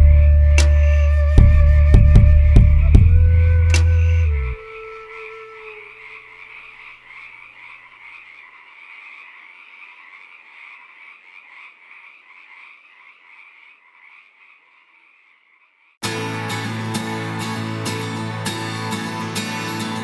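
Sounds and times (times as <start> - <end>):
chorus of frogs croaking: 3.7 - 20.0.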